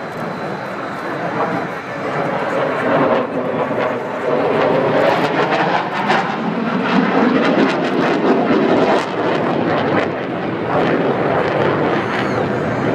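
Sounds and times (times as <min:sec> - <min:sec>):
aircraft flying overhead: 0:00.0 - 0:12.9.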